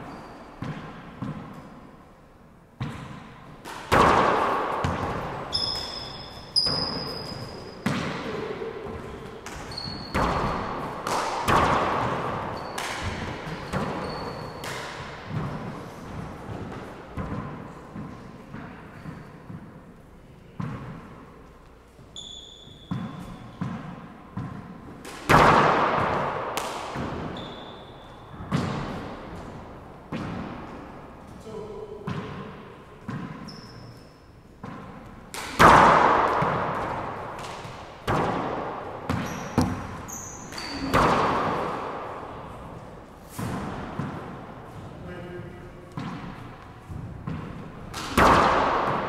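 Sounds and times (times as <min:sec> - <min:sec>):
handball hits echoing: 0:00.0 - 0:01.9, 0:02.7 - 0:31.1, 0:32.0 - 0:49.0
sneakers squeaking on floor: 0:00.0 - 0:02.0, 0:04.8 - 0:25.0, 0:27.0 - 0:31.4, 0:32.0 - 0:35.2, 0:36.3 - 0:47.8.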